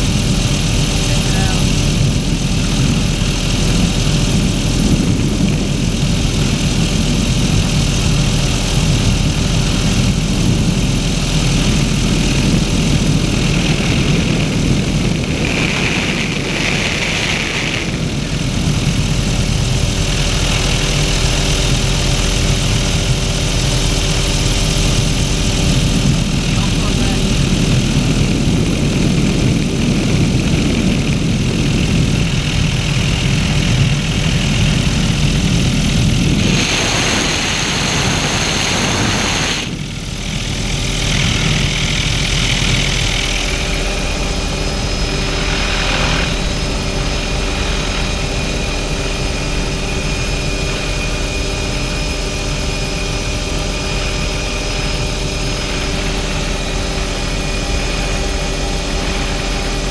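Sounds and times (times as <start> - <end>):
helicopter engine and rotor: 0.0 - 59.9
wind rushing in: 0.0 - 59.9.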